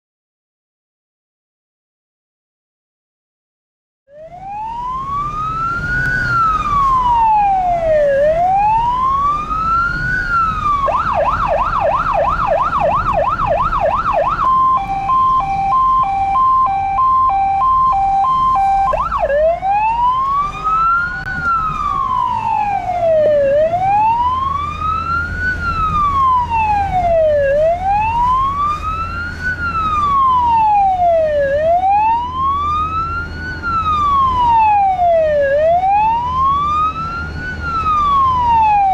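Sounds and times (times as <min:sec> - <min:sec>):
engine and road rumble: 0:04.1 - 0:38.9
fire engine siren: 0:04.1 - 0:38.9.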